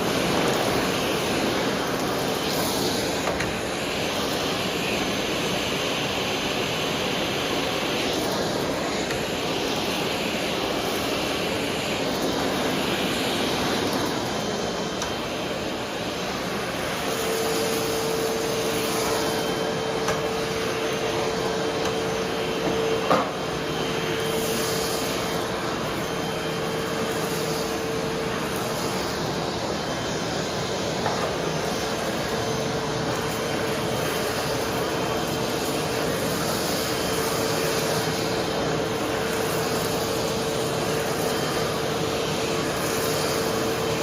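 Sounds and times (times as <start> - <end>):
vacuum cleaner running: 0.0 - 44.0.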